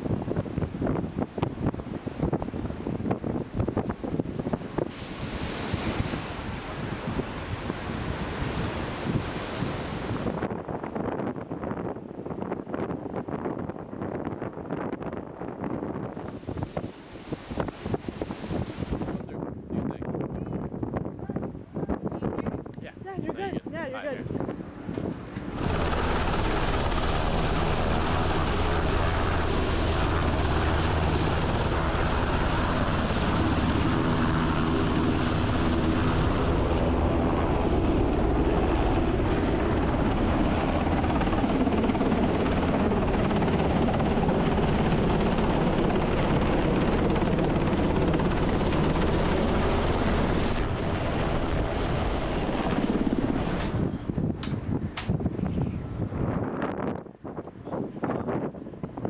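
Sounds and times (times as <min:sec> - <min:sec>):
helicopter rotor and engines: 0:00.0 - 0:59.0.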